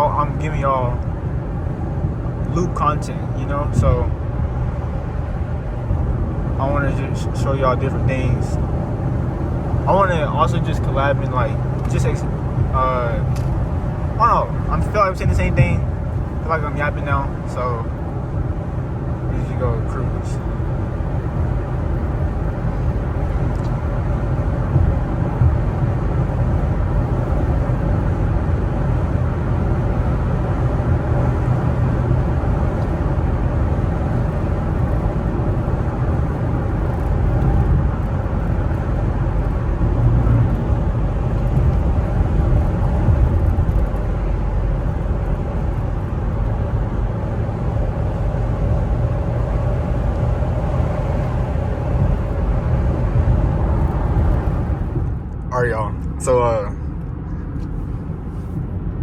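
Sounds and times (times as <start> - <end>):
car engine inside cabin: 0.0 - 59.0.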